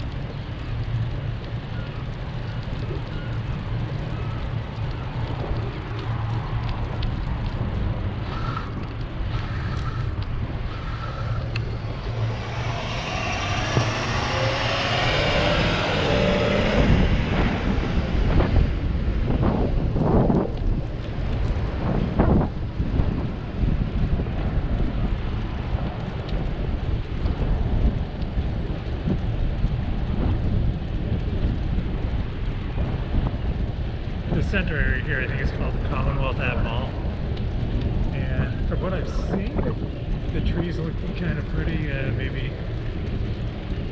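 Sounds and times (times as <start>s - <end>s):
faint ticks from road: 0.0s - 17.5s, 19.3s - 43.9s
city street traffic: 0.0s - 43.9s
wind rumbling on microphone: 0.0s - 43.9s
vehicle rushing: 2.7s - 43.9s.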